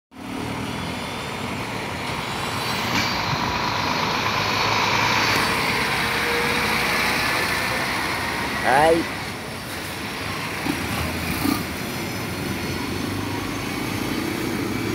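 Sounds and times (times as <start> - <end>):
engine running: 0.2 - 14.9
traffic rumble and hiss: 0.2 - 14.9.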